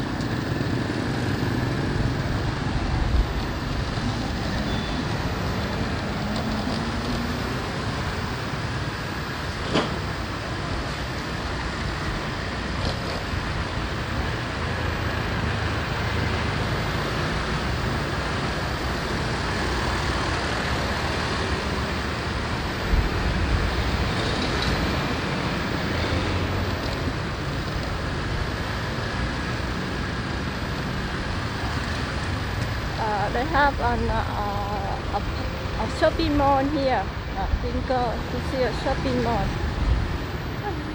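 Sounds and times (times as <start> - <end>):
road and traffic noise: 0.0 - 40.9.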